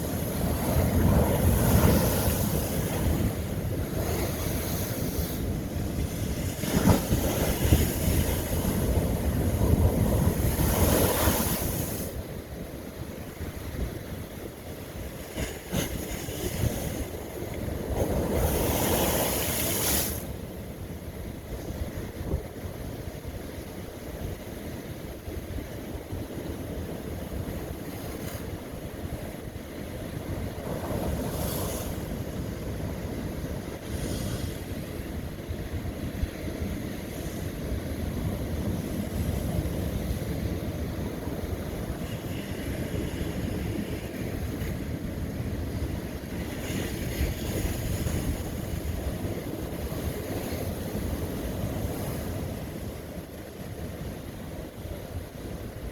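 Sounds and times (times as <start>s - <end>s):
rumble of surf: 0.0s - 55.9s.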